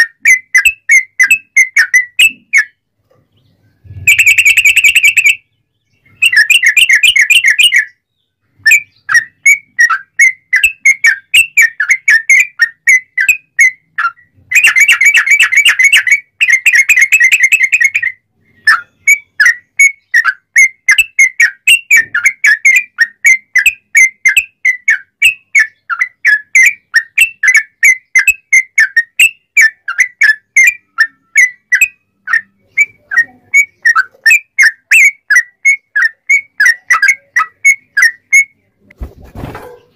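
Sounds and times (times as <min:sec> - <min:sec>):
bird singing whistled notes: 0:00.0 - 0:38.7.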